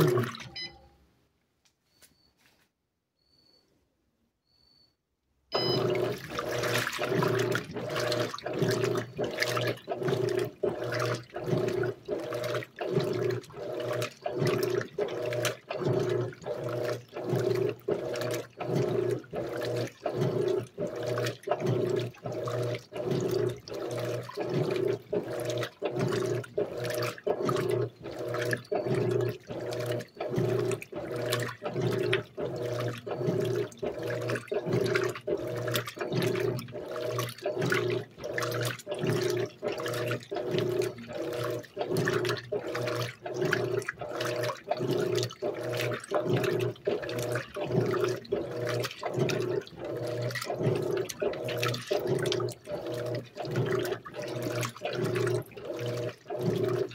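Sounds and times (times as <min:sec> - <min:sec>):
washing machine agitating: 0:00.0 - 0:00.8, 0:05.5 - 0:56.9
water and clothes sloshing: 0:00.0 - 0:00.8, 0:05.6 - 0:56.9.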